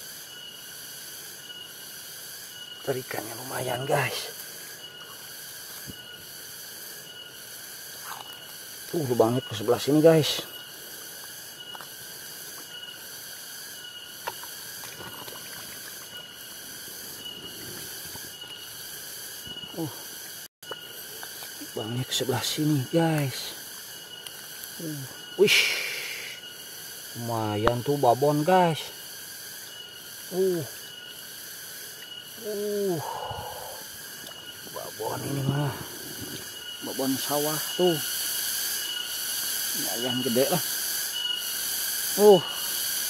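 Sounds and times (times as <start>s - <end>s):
insects chorus: 0.0s - 43.0s.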